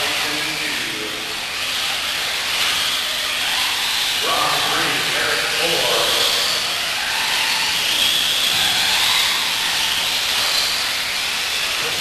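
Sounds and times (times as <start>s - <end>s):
rc buggy motors whining: 0.0s - 12.0s.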